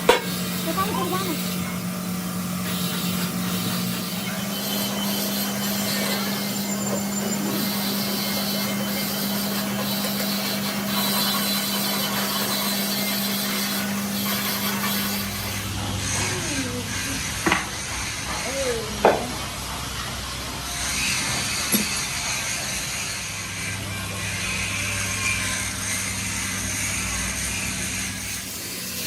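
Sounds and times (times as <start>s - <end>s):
machine humming: 0.0s - 29.0s.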